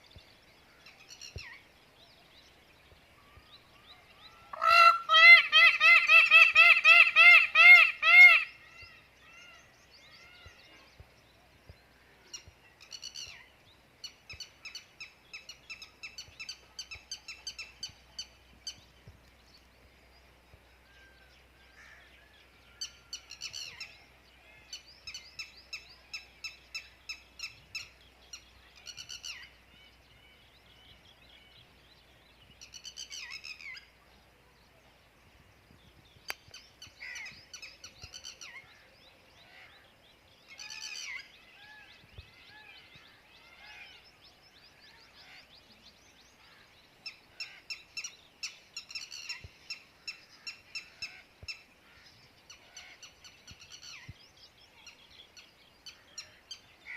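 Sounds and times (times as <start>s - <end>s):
small birds chirping: 0.0s - 4.8s, 8.2s - 56.9s.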